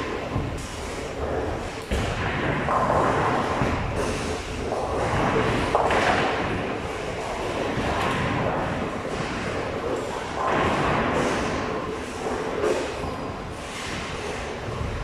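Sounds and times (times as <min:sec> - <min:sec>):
bowling balls rolling: 0:00.0 - 0:15.0.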